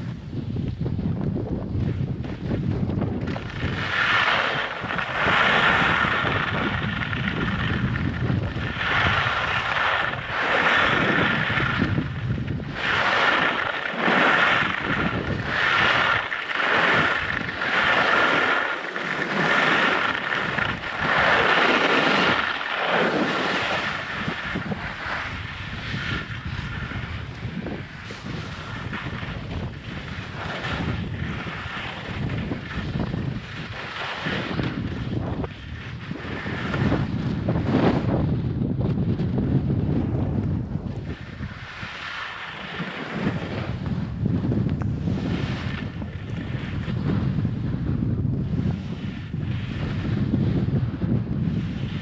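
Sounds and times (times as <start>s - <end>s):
skis scraping over snow: 0.0s - 52.0s
wind buffeting microphone: 0.0s - 52.0s.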